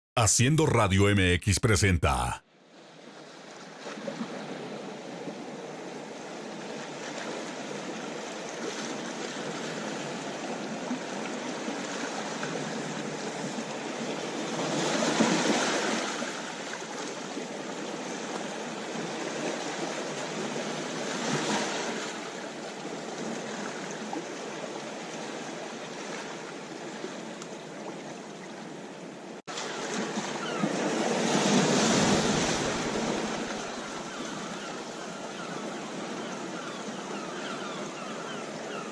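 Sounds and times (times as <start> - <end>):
sea waves breaking on shore: 2.8 - 28.8, 29.5 - 38.8.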